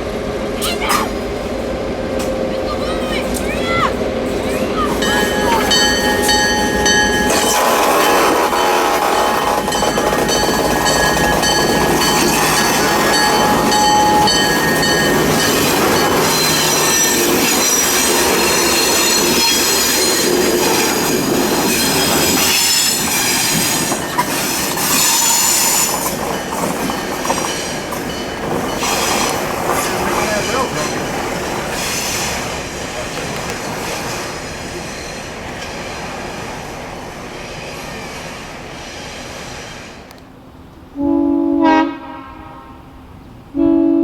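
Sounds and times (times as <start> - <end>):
train wheels squealing on rails: 2.2 - 40.1.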